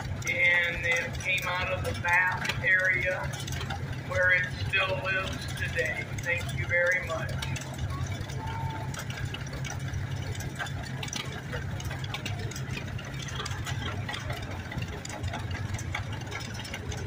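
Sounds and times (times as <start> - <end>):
two-cylinder tractor engine running: 0.0 - 17.0.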